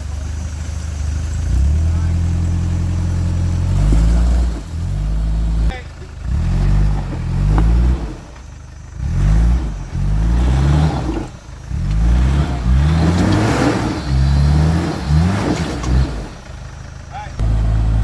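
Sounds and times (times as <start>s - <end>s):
engine revving in short bursts: 1.4s - 16.7s.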